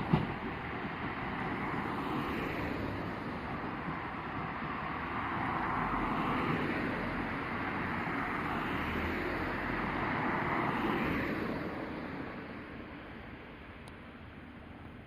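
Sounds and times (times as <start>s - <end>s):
electric train rolling past: 0.0s - 15.0s.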